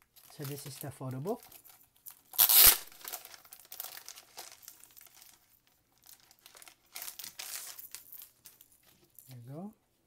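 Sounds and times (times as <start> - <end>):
plastic sleeve crinkling: 0.0 - 9.7.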